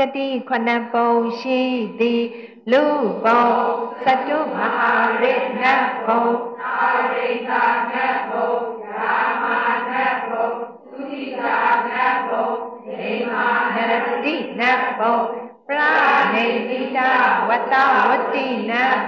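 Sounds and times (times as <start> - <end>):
group of voices chanting: 3.1 - 19.0.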